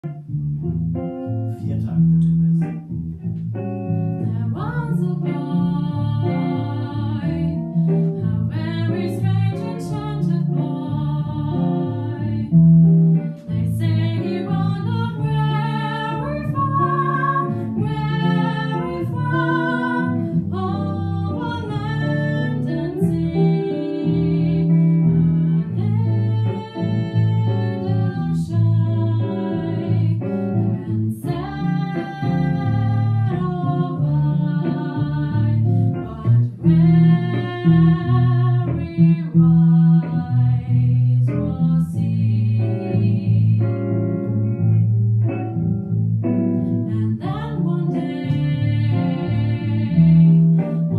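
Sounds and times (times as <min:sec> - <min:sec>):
bass line: 0:00.0 - 0:50.9
plucked guitar: 0:00.0 - 0:50.9.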